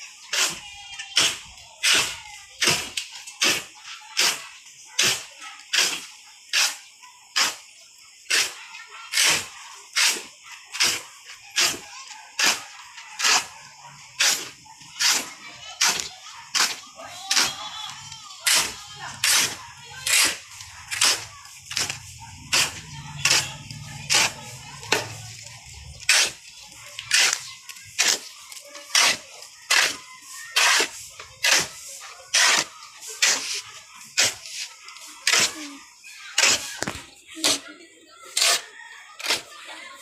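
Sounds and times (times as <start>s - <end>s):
shovel scraping on concrete: 0.2s - 4.4s, 5.0s - 40.0s.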